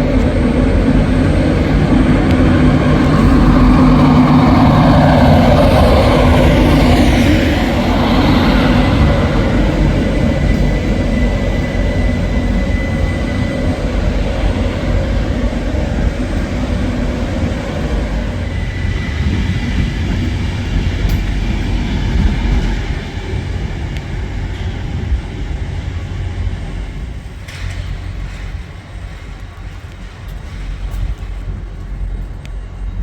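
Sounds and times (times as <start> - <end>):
electric train rumbling: 0.0 - 33.0
high train whine: 0.0 - 33.0.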